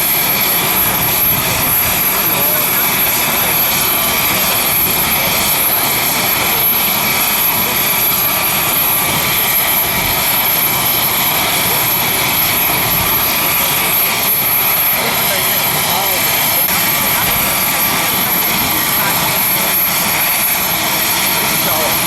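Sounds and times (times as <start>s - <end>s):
helicopter engine and rotor noise: 0.0s - 22.0s
high turbine whine: 0.0s - 22.0s.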